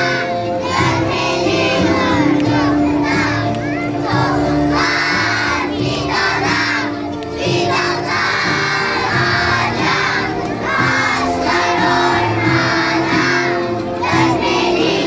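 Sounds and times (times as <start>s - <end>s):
background music with held notes: 0.0s - 15.0s
children singing and shouting: 0.0s - 15.0s.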